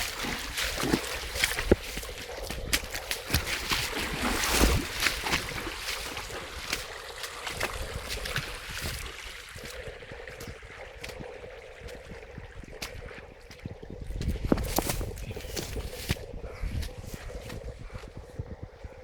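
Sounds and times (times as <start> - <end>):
rushing water: 0.0 - 18.1
wind buffeting microphone: 0.0 - 19.0.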